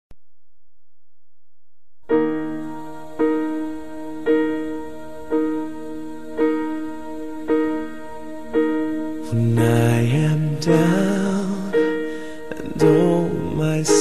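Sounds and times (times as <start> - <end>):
solo piano chords: 2.0 - 14.0.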